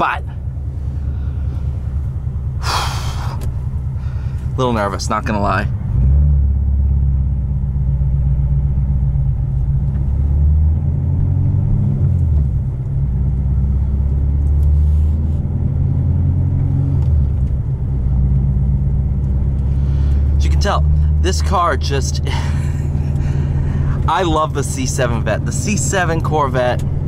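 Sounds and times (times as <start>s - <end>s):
deep car exhaust rumble: 0.0s - 27.0s.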